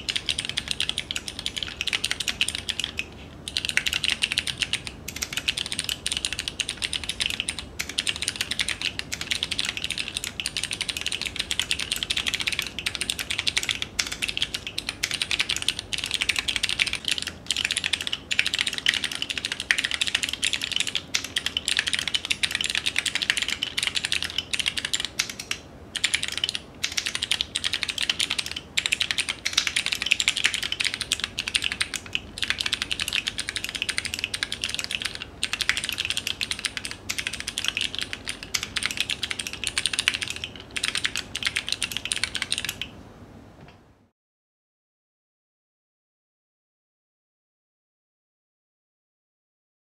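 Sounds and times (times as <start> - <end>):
typing on mechanical keyboard: 0.0 - 42.9.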